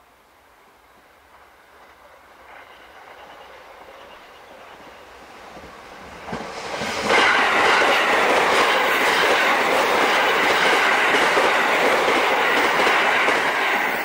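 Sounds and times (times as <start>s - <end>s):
train passing at speed: 0.8s - 14.0s.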